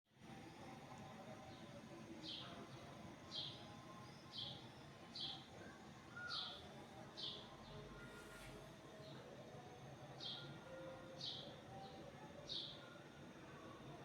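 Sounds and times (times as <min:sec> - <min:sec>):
faint background noise: 0:00.2 - 0:14.0.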